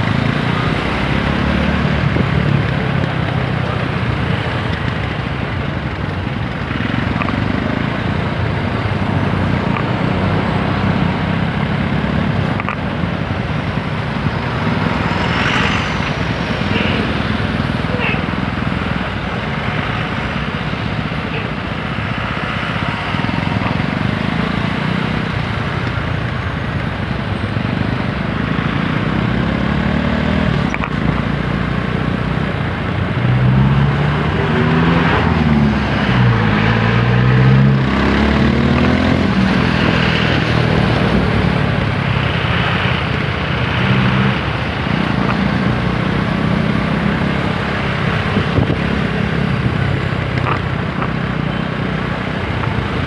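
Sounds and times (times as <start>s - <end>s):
motorcycle engine accelerating: 0.0s - 25.8s, 27.4s - 53.0s
road and wind noise: 0.0s - 53.0s.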